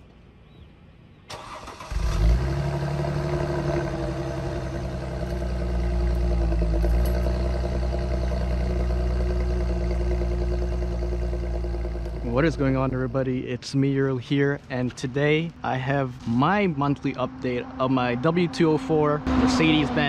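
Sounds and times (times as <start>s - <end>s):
car engine starting and idling: 1.3s - 20.0s.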